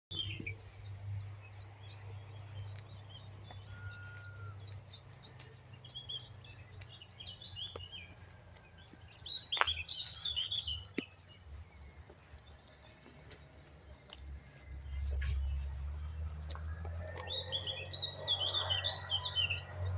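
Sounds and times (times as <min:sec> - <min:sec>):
small birds chirping: 0:00.1 - 0:19.9.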